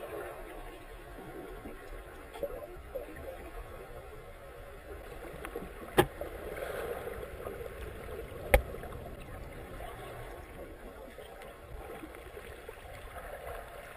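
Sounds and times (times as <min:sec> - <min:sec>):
muffled underwater water noise: 0:00.0 - 0:13.9.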